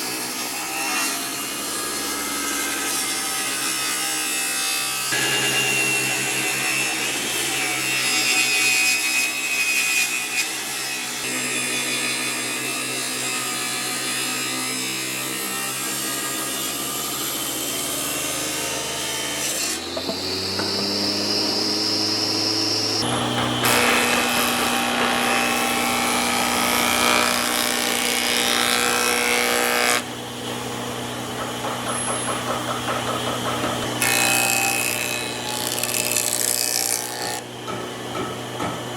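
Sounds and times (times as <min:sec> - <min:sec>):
saw rasping through wood: 0:00.0 - 0:38.5
woodworking power tools humming: 0:00.0 - 0:38.9.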